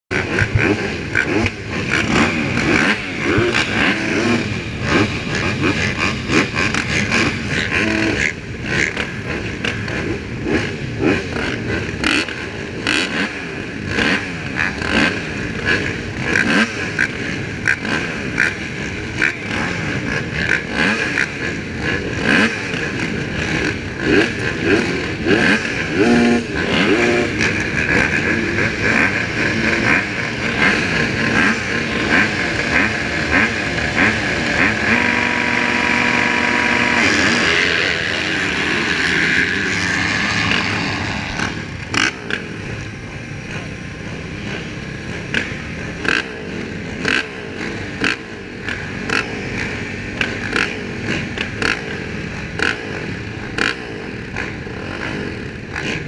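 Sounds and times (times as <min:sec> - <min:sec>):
dirt bikes idling and revving: 0:00.1 - 0:56.0.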